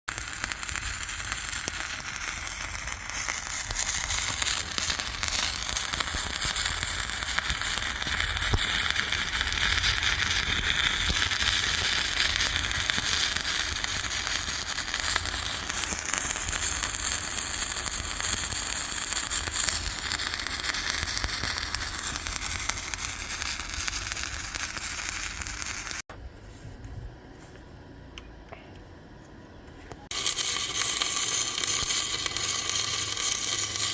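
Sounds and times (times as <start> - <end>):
arc welding crackle: 0.1 - 26.1, 30.1 - 33.9.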